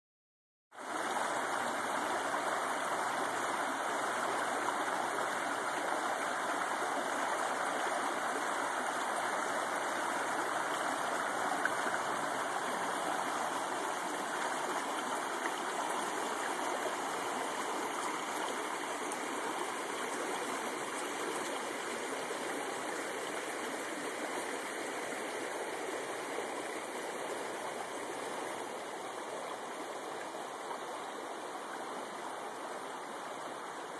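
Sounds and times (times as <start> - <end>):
creek water rushing over stones: 0.8 - 33.9.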